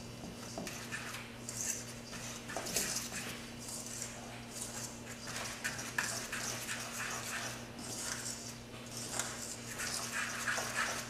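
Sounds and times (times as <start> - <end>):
low steady hum: 0.0 - 11.0
utensil scraping metal bowl: 0.7 - 11.0.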